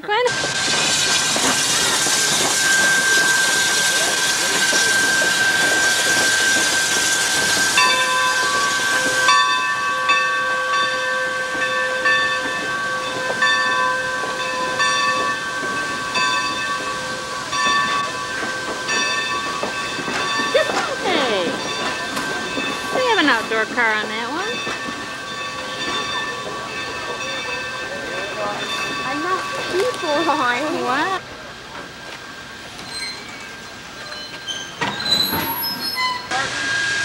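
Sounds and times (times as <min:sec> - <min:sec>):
steam locomotive venting steam: 0:00.0 - 0:37.0
high ringing tones: 0:01.7 - 0:36.3.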